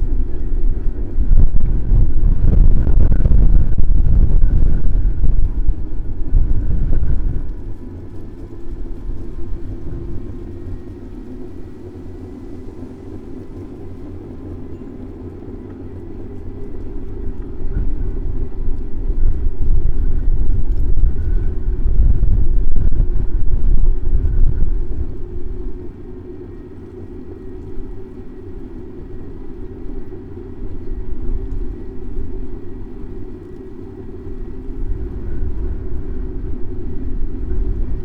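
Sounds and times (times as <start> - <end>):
faint steady hum: 0.0 - 38.0
wind rumble on microphone: 0.0 - 38.0.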